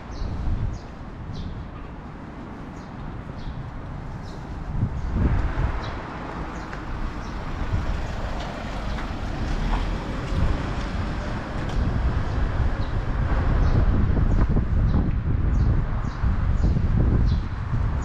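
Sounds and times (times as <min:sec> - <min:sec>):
gusty wind buffeting microphone: 0:00.0 - 0:18.0.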